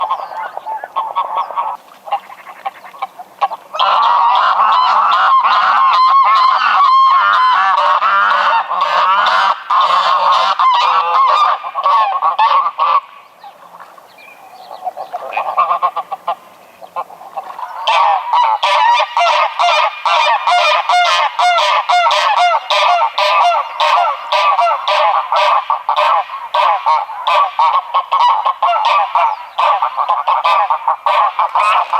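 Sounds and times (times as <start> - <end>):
geese honking: 0.0 - 31.9.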